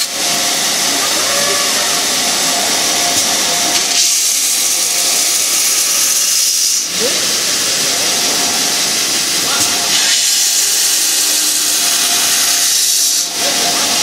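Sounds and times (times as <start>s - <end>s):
belt grinder grinding metal: 0.0s - 14.0s.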